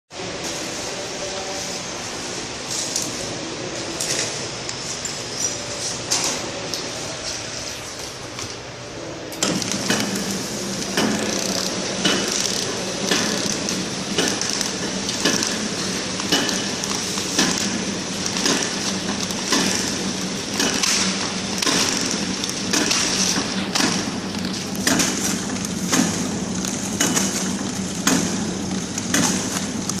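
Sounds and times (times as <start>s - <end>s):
packing machine humming: 0.2s - 30.0s.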